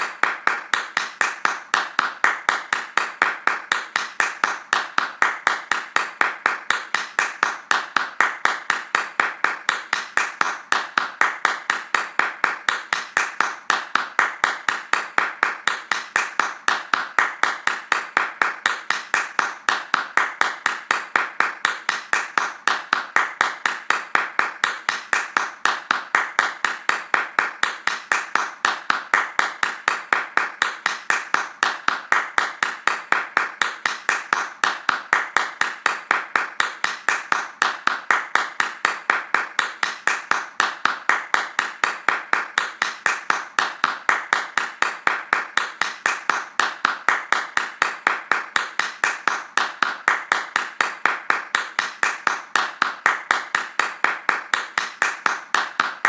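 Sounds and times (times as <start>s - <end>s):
fast hand clapping: 0.0s - 56.0s.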